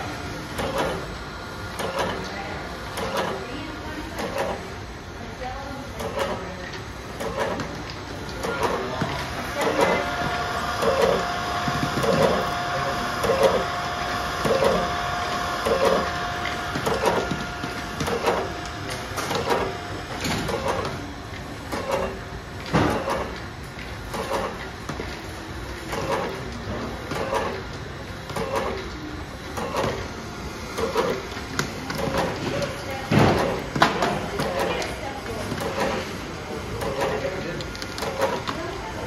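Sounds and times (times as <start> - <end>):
labeling machine cycling rhythmically: 0.0 - 39.0
steady machine whine: 0.0 - 39.0.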